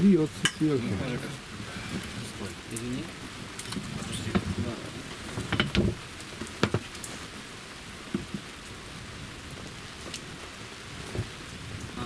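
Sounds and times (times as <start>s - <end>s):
rain pouring on a boat: 0.0s - 12.0s.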